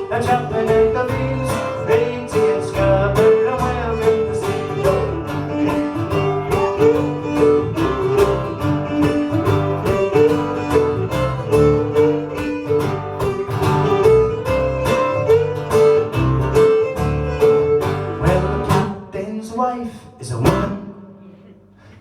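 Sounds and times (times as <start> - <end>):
fiddle melody: 0.0 - 18.9
strummed acoustic guitar: 0.0 - 19.4, 20.4 - 21.1.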